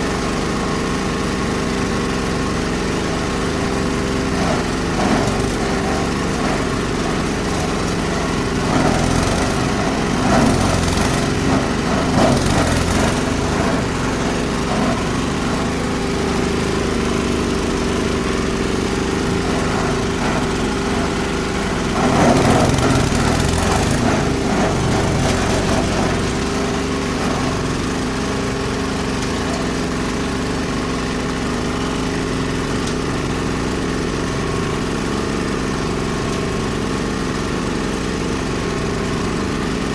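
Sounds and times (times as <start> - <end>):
diesel engine running: 0.0 - 39.9
machine grinding material: 0.0 - 39.9.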